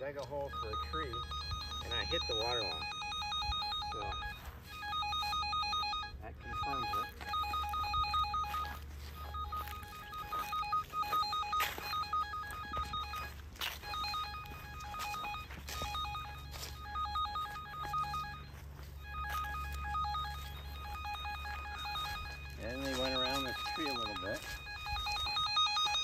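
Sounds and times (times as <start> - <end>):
wire locator beeping: 0.0 - 26.0.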